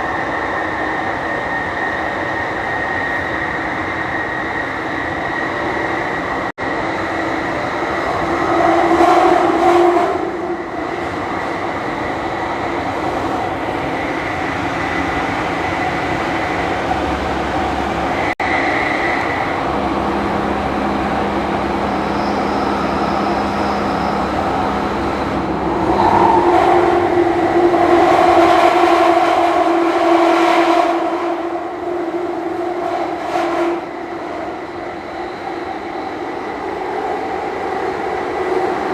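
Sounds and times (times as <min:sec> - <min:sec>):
underground train rumbling: 0:00.0 - 0:38.9.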